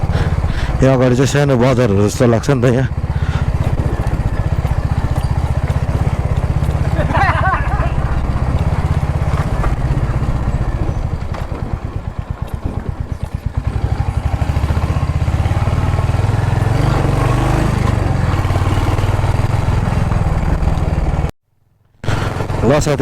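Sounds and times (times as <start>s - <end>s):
motorcycle engine running: 0.0s - 21.3s, 22.0s - 23.0s.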